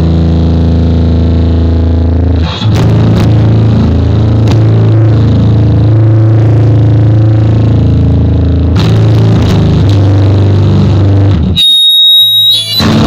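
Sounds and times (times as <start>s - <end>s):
distorted bass guitar note: 0.0s - 13.0s.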